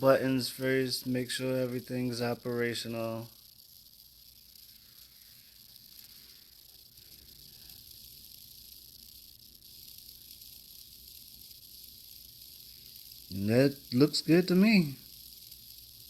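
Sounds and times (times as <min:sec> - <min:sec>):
faint high-pitched hiss: 0:00.0 - 0:16.0.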